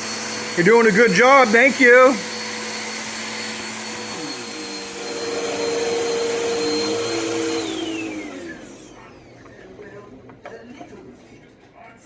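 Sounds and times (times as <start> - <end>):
vacuum cleaner motor whine: 0.0 - 10.5.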